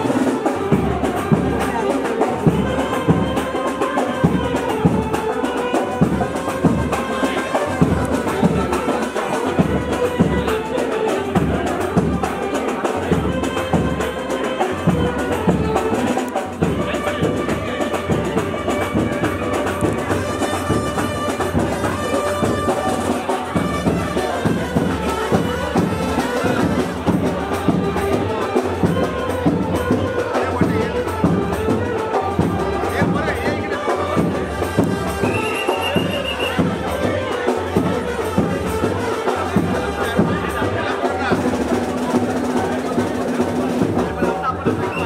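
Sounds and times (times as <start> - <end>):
reedy wind instrument long notes: 0.0 - 45.0
steady drumming: 0.0 - 45.0.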